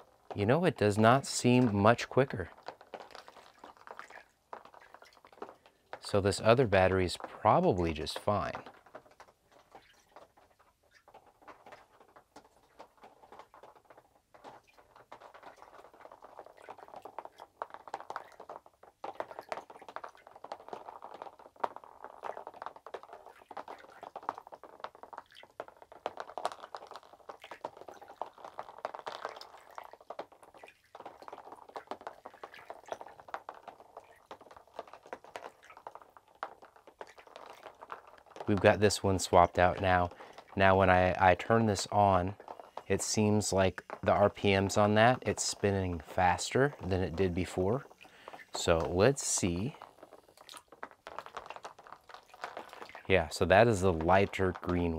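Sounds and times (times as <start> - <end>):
small ticks and plinks: 0.0 - 54.9
water sloshing and splashing: 0.0 - 54.9.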